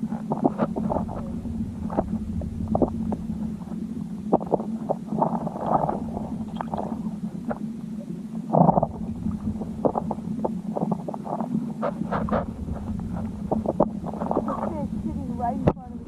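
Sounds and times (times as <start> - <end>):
low underwater rumble: 0.0 - 16.0.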